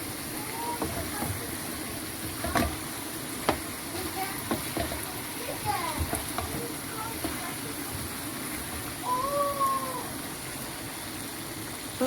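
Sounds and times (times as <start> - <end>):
sauce sizzling in a pot: 0.0 - 12.0.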